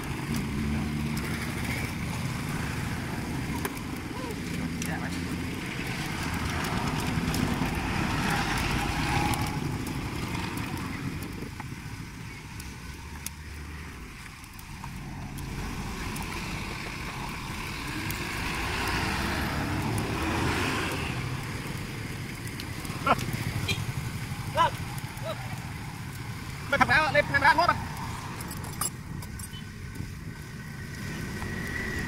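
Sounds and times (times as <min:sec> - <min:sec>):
road traffic going by: 0:00.0 - 0:32.0.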